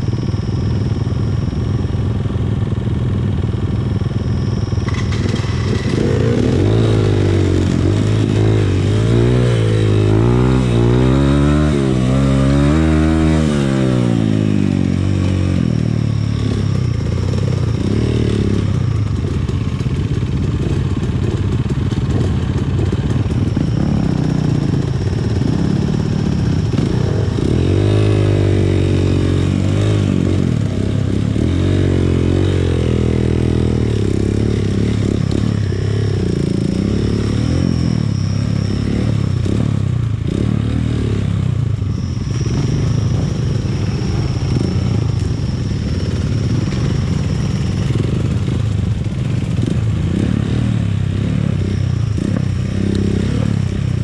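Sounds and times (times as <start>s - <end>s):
dirt bike engine revving: 4.9s - 54.0s.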